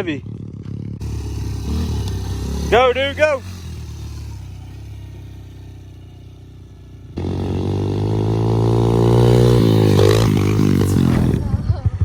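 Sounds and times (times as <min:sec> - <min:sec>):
small engine revving high: 0:01.0 - 0:11.4.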